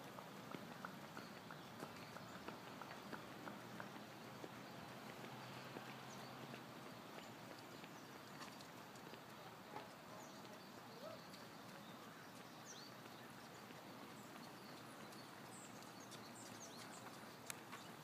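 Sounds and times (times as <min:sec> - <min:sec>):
faint street ambience: 0:00.0 - 0:18.0
runners' footsteps on road: 0:00.0 - 0:18.0.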